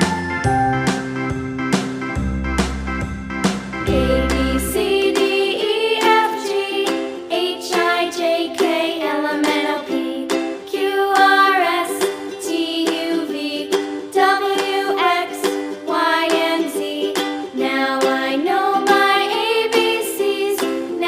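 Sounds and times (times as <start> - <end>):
children's song with ukulele: 0.0 - 21.0.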